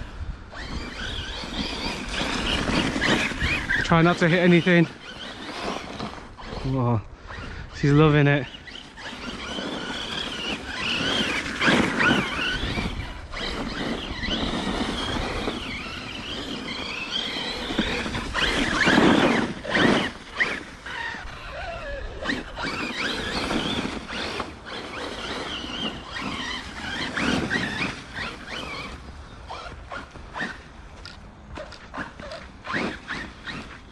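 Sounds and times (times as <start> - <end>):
electric motor whining: 0.0 - 33.9
tyres churning through snow: 0.0 - 33.9.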